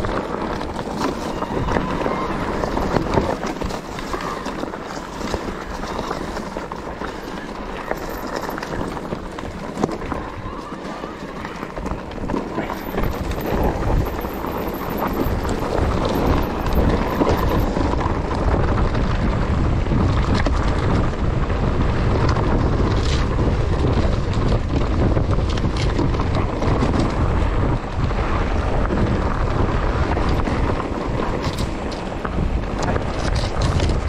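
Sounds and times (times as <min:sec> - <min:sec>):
tyres rumbling on trail: 0:00.0 - 0:34.0
wind buffeting microphone: 0:00.0 - 0:34.0.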